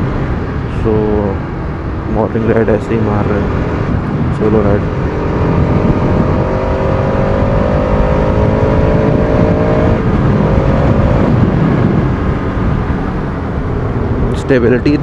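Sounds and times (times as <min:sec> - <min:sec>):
wind rumble: 0:00.0 - 0:15.0
motorcycle engine running: 0:02.8 - 0:15.0.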